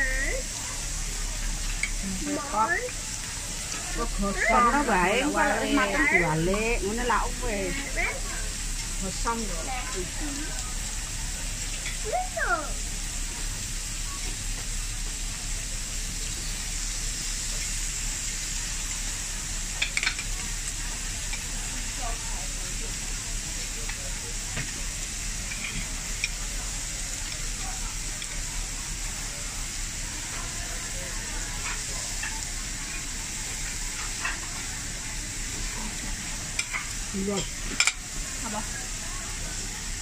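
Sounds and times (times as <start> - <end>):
meat sizzling on a grill: 0.0 - 40.0.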